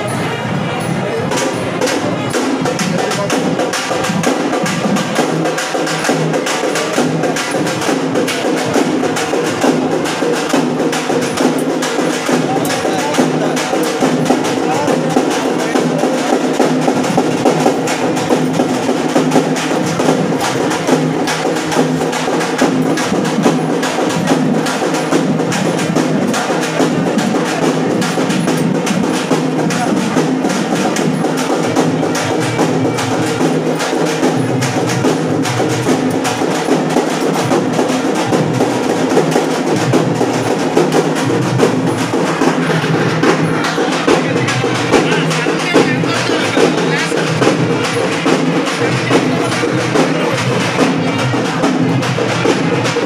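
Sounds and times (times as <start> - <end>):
fast drumming and percussion: 0.0 - 53.0.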